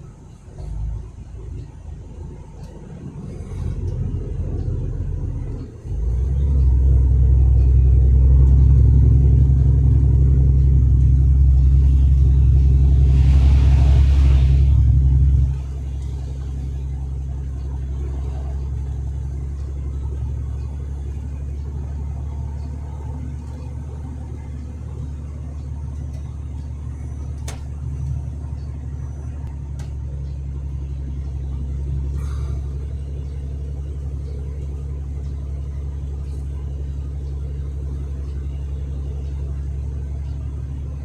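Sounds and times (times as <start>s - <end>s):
truck engine and road noise: 0.0s - 41.0s.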